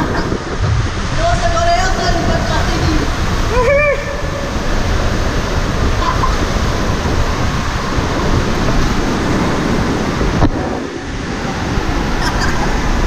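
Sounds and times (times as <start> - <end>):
water and air rushing over microphone: 0.0 - 13.0.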